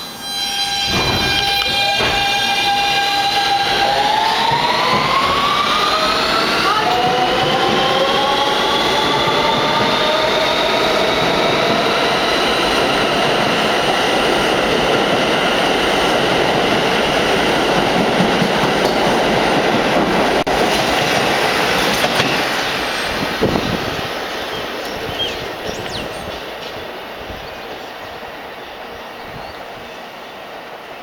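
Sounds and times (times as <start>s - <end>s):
train traction motors whining: 0.0s - 26.4s
train wheels rumbling and clattering: 0.7s - 28.2s.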